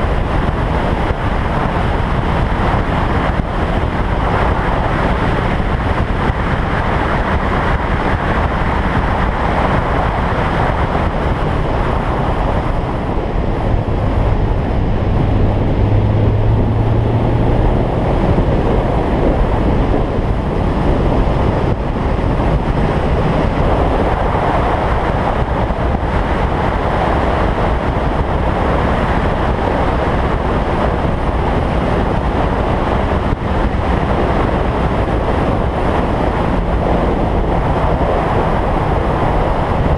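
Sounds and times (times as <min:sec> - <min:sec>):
race car engine: 0:00.0 - 0:39.9
wind and road noise: 0:00.0 - 0:39.9.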